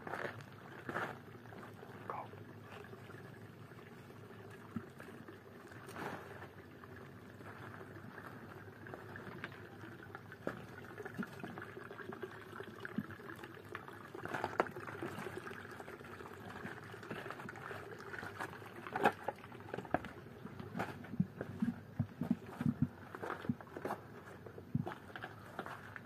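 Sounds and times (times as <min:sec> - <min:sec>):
water trickling and pouring: 0:00.0 - 0:26.0.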